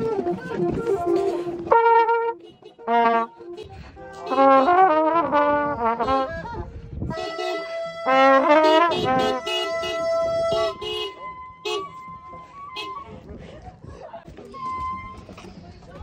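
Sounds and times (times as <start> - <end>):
brass instruments playing: 0.0 - 13.2.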